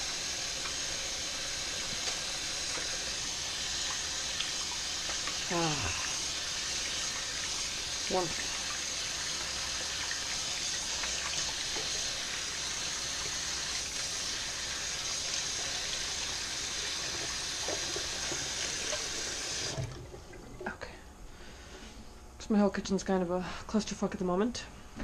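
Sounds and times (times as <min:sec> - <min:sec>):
sink tap running: 0:00.0 - 0:20.7.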